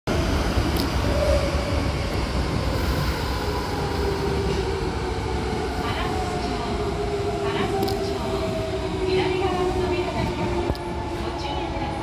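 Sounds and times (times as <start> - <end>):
subway car rumbling with whine: 0.1 - 12.0.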